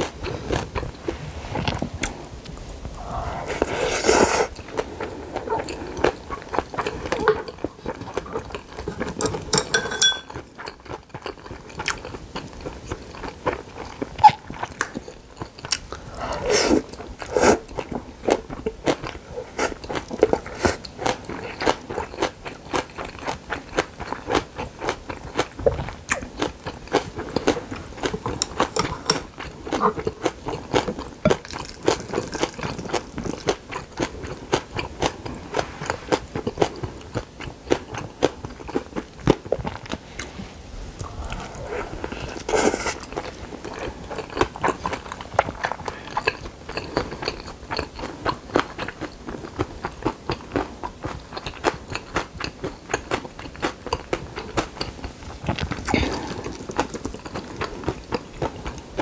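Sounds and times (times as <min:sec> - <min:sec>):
crunchy chewing: 0:10.3 - 0:40.3, 0:41.0 - 0:59.0.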